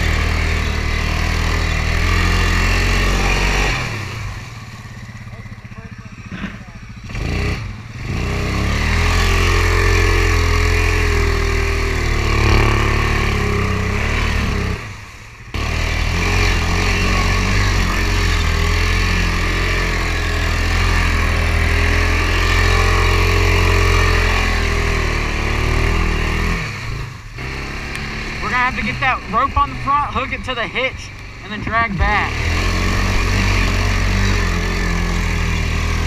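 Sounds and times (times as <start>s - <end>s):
atv engine running under load: 0.0s - 36.0s.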